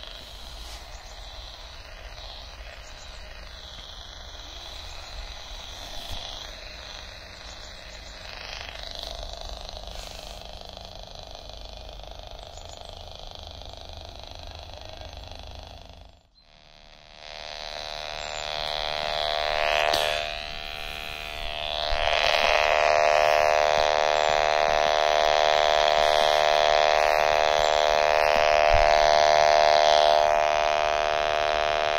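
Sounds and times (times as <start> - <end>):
radio electrical buzz: 0.0 - 31.9.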